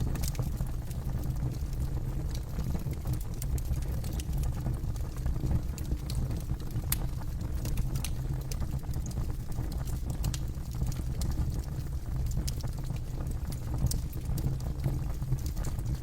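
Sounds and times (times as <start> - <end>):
burning wood crackling and popping: 0.0 - 16.0.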